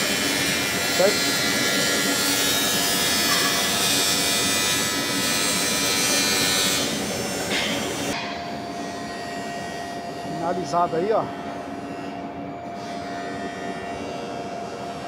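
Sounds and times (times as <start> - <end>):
welding arc buzzing and hissing: 0.0 - 15.0
welding machine hum: 0.0 - 15.0.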